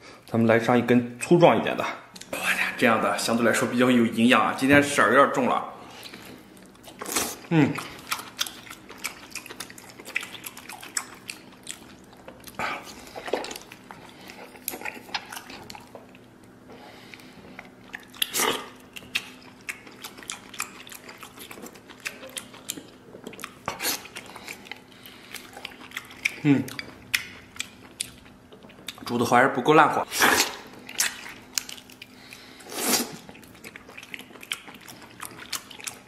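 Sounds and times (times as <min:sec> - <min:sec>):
man chewing: 0:05.8 - 0:29.1, 0:30.1 - 0:36.0.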